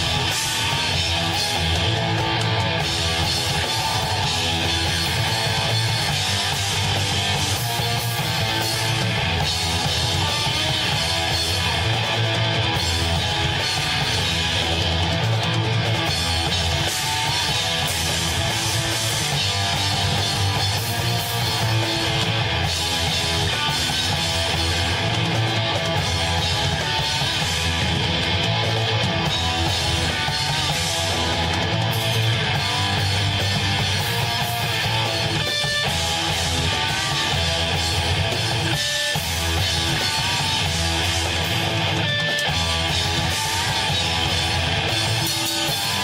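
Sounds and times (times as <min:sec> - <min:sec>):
live rock band with guitar: 0:00.0 - 0:46.0.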